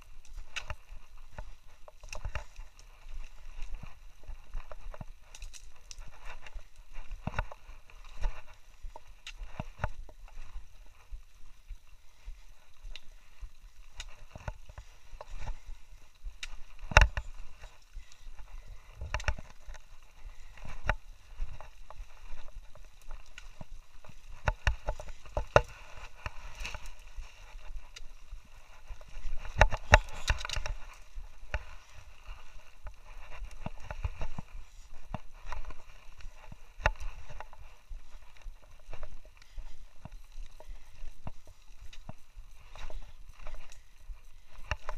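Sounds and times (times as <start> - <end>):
footsteps on rocky trail: 0.0 - 44.9.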